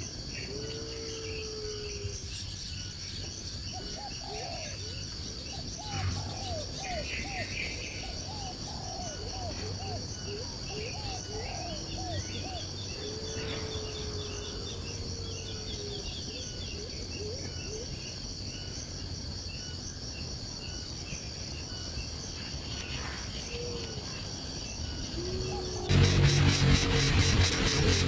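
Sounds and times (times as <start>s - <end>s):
low whistled bird calls: 0.0s - 18.7s, 21.6s - 28.0s
insect drone: 0.0s - 28.0s.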